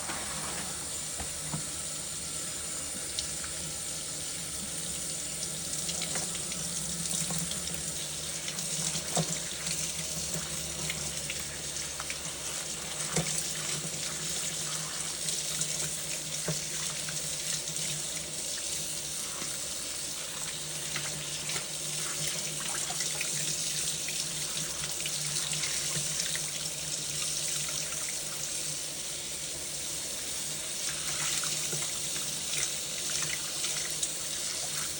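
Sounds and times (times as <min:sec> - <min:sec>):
tap water running into sink: 0:00.0 - 0:34.9.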